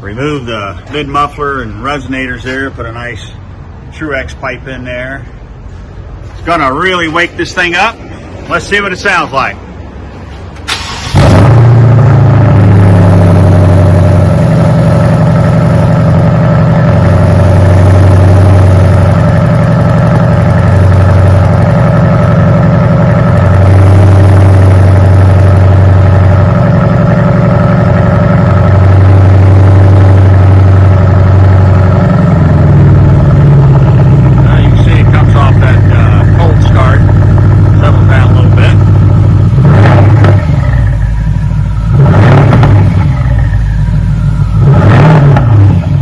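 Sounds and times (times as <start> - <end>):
car engine starting and idling: 0.0 - 46.0.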